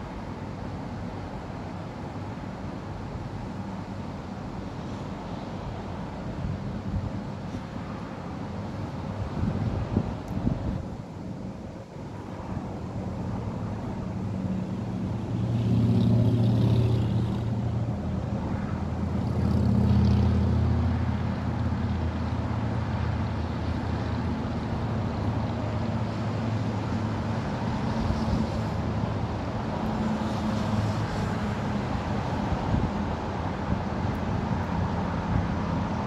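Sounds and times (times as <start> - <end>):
road traffic hum: 0.0 - 36.0
vehicles passing: 0.0 - 36.0.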